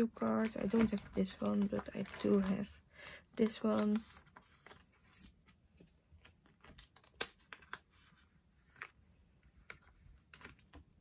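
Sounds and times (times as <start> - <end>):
rustling of plastic sleeves: 0.0 - 11.0.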